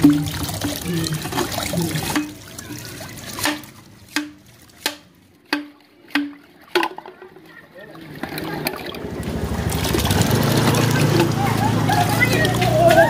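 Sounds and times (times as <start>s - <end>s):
water gushing and splashing: 0.0s - 13.0s.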